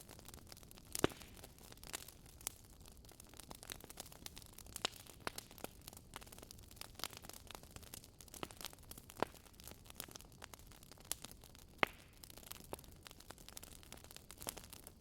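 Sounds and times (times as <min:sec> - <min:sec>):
fire hiss and low rumble: 0:00.0 - 0:15.0
fire popping and snapping: 0:00.0 - 0:15.0.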